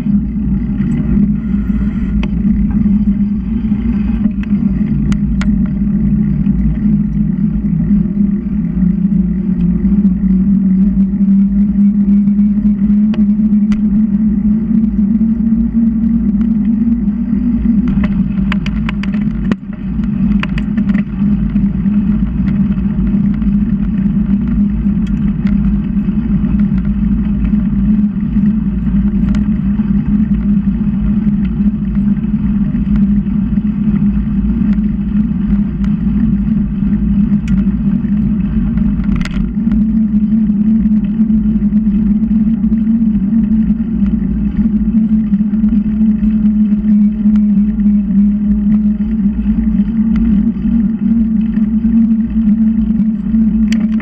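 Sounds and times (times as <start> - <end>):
constant low hum: 0.0 - 54.0
wind and road noise on microphone: 0.0 - 54.0.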